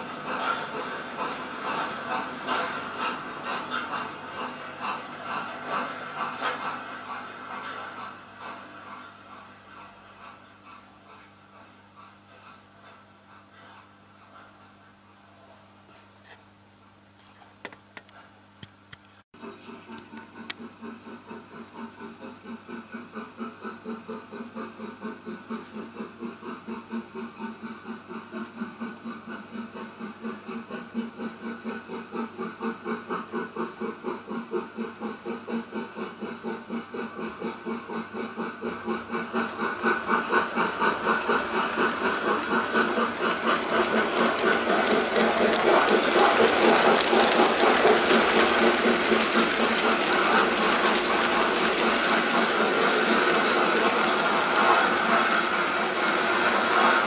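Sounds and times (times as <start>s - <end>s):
model train rhythmic clatter: 0.0s - 16.4s, 19.4s - 57.0s.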